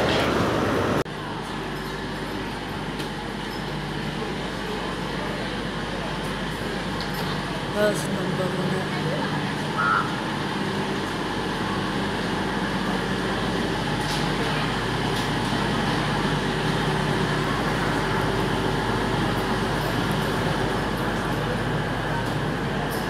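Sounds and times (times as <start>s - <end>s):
train diesel engines humming: 0.0s - 23.0s.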